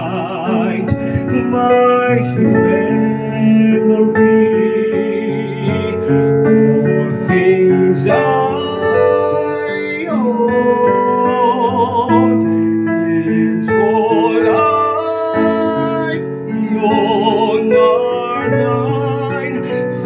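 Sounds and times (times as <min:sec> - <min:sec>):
instrumental accompaniment: 0:00.0 - 0:20.0
person singing with vibrato: 0:00.0 - 0:20.0.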